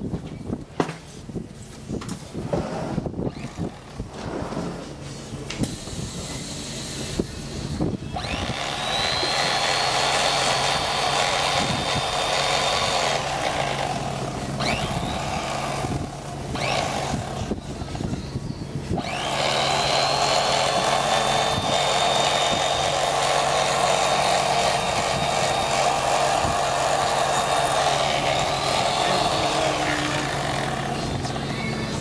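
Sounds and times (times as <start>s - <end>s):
electric knife motor buzzing: 3.2s - 4.0s, 5.6s - 18.2s, 18.9s - 32.0s
loud steady whine: 5.2s - 32.0s.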